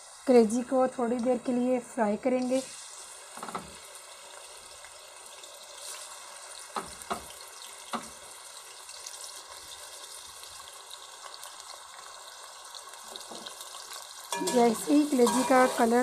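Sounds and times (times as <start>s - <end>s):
liver sizzling in hot oil: 0.0s - 16.0s
oil popping and crackling: 2.4s - 16.0s.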